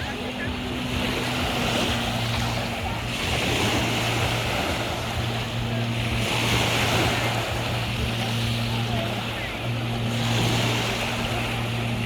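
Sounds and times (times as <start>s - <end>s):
low engine hum: 0.0s - 12.0s
sea water rushing: 0.0s - 12.0s.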